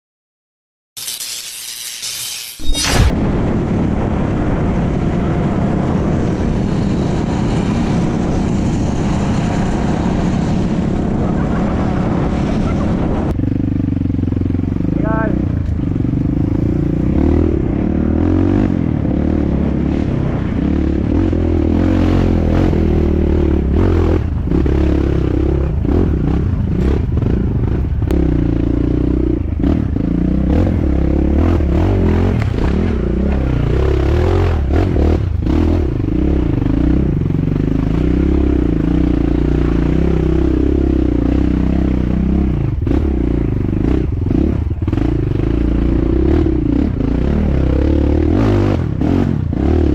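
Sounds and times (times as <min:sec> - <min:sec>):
dirt bike engine revving: 0:07.1 - 0:49.9.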